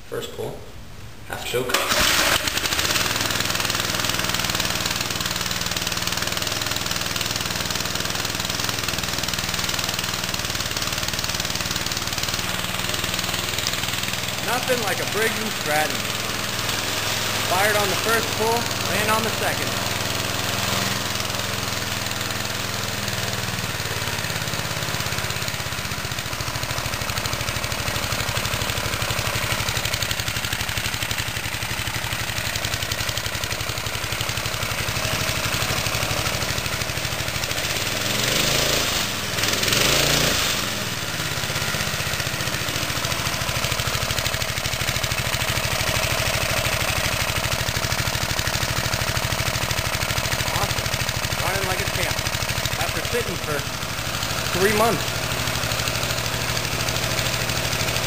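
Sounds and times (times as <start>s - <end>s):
lawn edger engine running: 1.7s - 58.0s.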